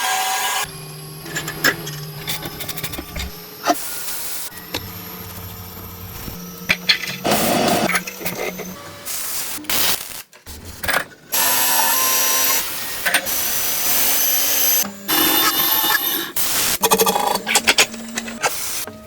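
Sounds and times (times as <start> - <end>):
handheld power tool running: 0.0 - 10.2, 11.3 - 19.0.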